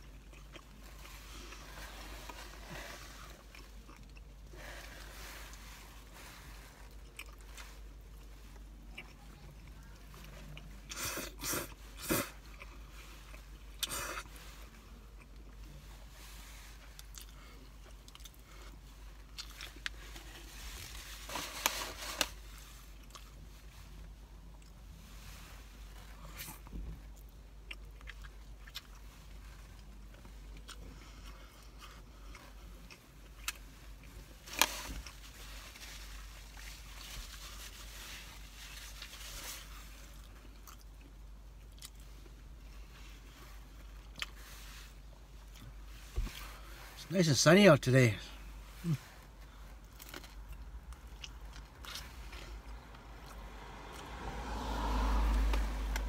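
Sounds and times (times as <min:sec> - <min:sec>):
person chewing pizza: 0:00.0 - 0:16.1, 0:16.7 - 0:25.0, 0:26.0 - 0:46.7, 0:48.7 - 0:54.1.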